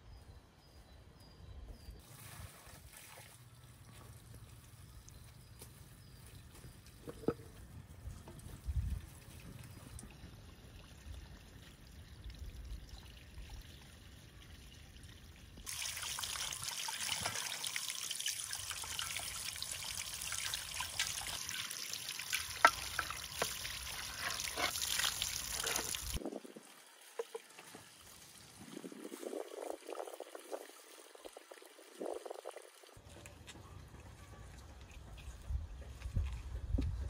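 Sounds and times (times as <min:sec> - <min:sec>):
water pouring and trickling: 0:02.0 - 0:33.3.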